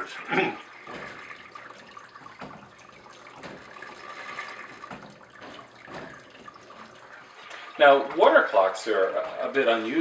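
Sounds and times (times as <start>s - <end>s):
water splashing: 0.0s - 10.0s
water trickling: 0.0s - 10.0s.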